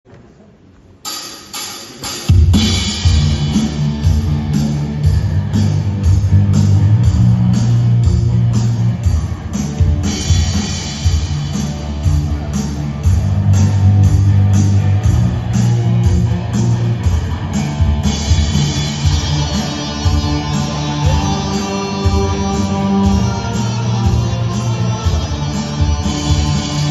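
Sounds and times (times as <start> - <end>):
rock band playing live: 2.3 - 26.9.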